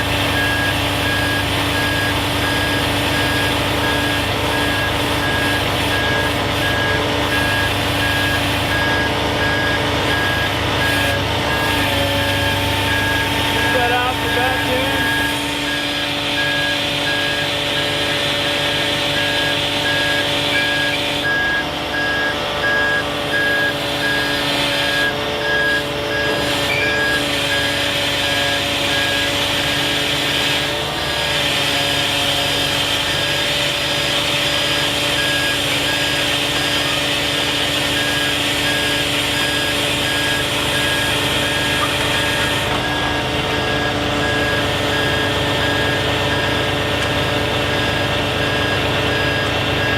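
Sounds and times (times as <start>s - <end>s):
diesel truck engine running: 0.0s - 49.9s
back-up alarm beeping: 0.1s - 29.9s, 33.0s - 49.9s.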